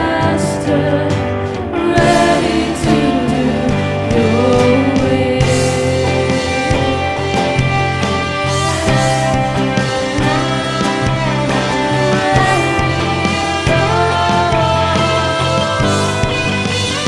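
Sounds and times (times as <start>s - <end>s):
worship song singers: 0.0s - 17.0s
band with drums: 2.0s - 17.0s.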